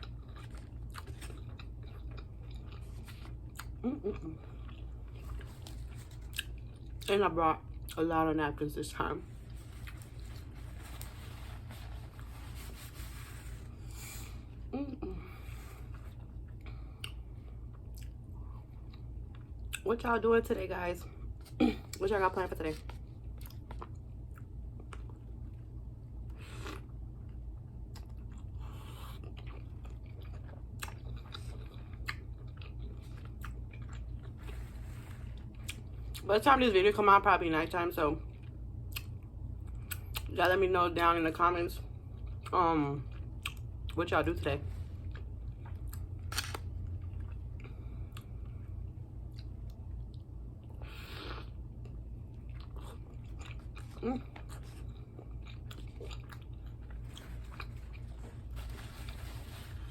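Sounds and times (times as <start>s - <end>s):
chewing crisp food: 0.0s - 8.2s, 9.2s - 12.3s, 14.2s - 19.9s, 21.2s - 36.3s, 38.2s - 40.3s, 41.8s - 59.7s
steady low hum: 0.0s - 59.9s.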